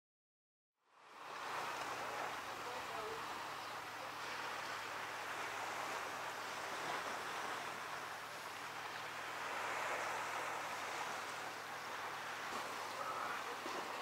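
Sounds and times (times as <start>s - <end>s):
water rushing around a boat: 0.8s - 14.0s
wind: 0.8s - 14.0s.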